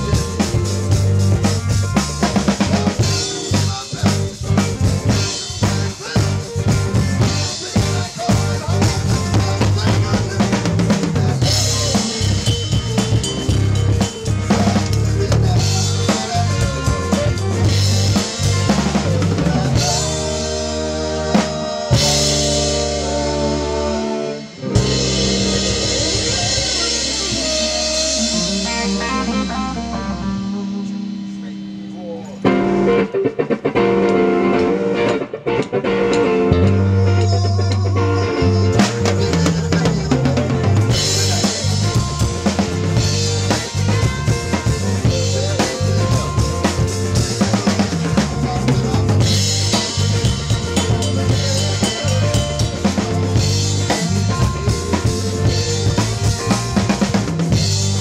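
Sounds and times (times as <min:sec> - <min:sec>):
rock band jamming: 0:00.0 - 0:58.0.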